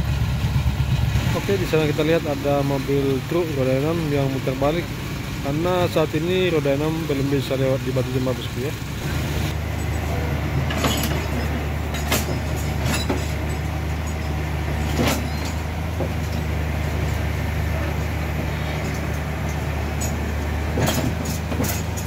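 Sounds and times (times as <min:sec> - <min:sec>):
heavy truck engine idling: 0:00.0 - 0:22.0.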